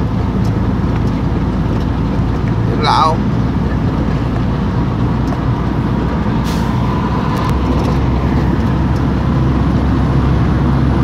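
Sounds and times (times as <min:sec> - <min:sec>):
truck engine rumble: 0:00.0 - 0:11.0.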